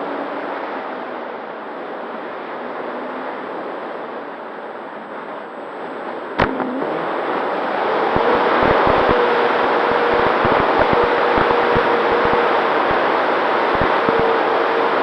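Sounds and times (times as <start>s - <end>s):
wind rush over microphone: 0.0s - 15.0s.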